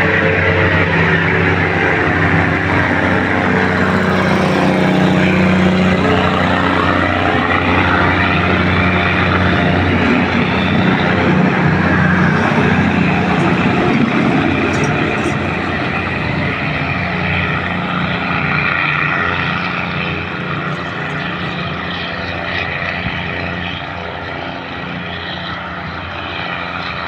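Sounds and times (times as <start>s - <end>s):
diesel train engine droning: 0.0s - 27.0s.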